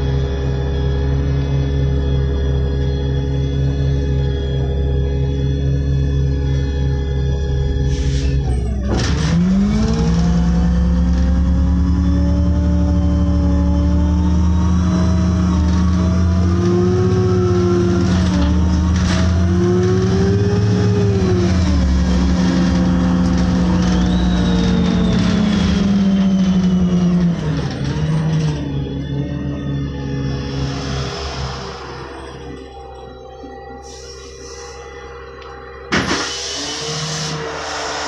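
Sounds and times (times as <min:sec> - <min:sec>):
bus engine droning: 0:00.0 - 0:38.0
high whining drivetrain tones: 0:00.0 - 0:38.0.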